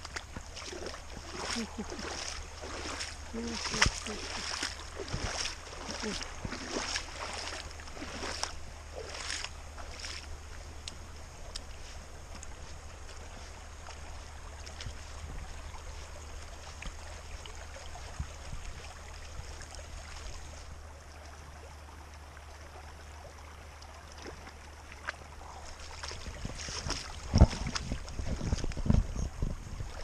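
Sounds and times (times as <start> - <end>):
wind rumbling on microphone: 0.0 - 20.9, 25.3 - 30.0
rainwater running along trail: 0.0 - 30.0.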